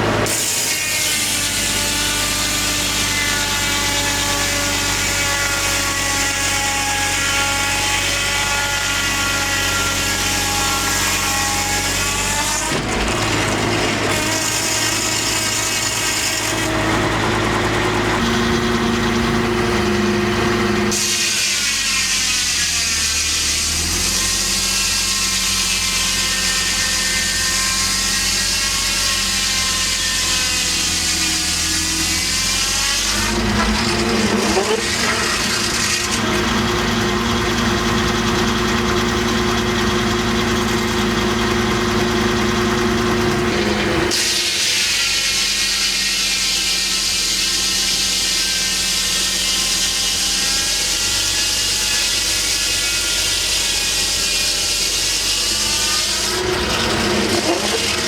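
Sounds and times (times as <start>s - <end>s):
circular sawmill sawing log: 0.0s - 58.0s.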